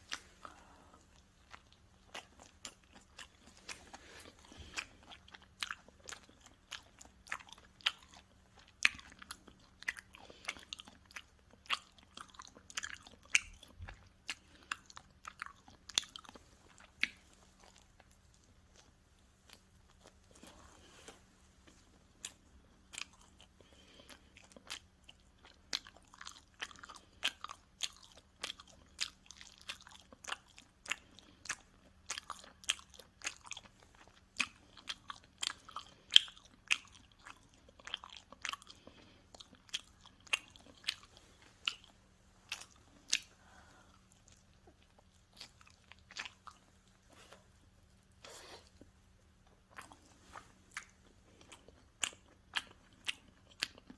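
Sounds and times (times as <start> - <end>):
chewing crisp pizza crust: 0.0 - 53.9.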